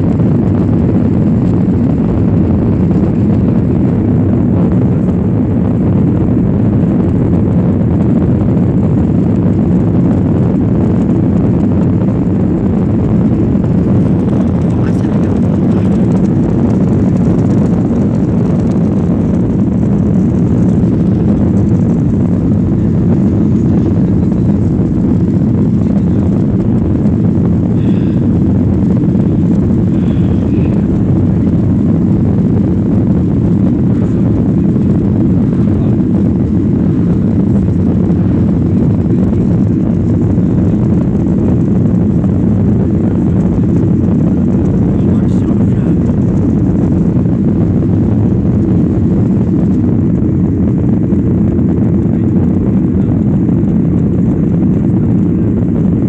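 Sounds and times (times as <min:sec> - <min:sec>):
jet engine and airflow noise: 0:00.0 - 0:56.0.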